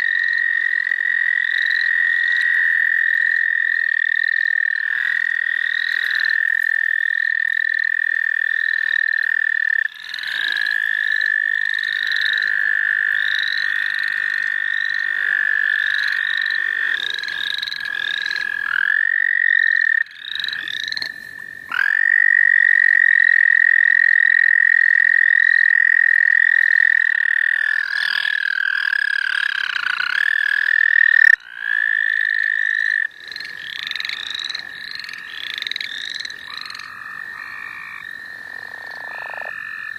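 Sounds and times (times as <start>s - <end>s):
frogs giving short rising calls: 0.0s - 39.9s
toads giving high trills: 0.0s - 39.9s.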